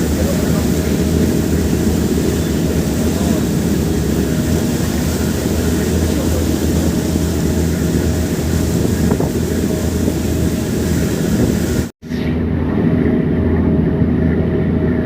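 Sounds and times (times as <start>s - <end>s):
wind noise on microphone: 0.0s - 13.5s
engine rumble: 0.0s - 15.0s.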